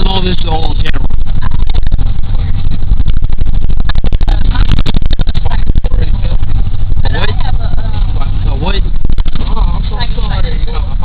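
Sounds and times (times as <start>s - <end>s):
loud low rumble: 0.0s - 11.0s.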